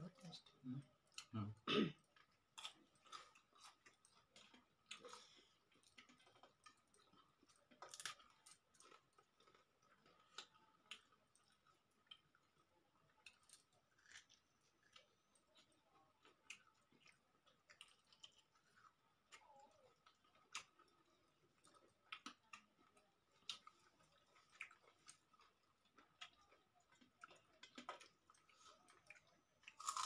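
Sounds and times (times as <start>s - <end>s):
soft chewing: 0.0s - 30.0s.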